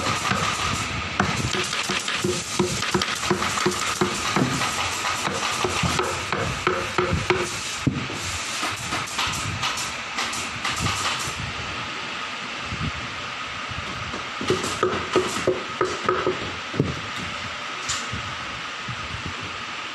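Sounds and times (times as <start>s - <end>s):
machine whine: 0.0s - 19.9s.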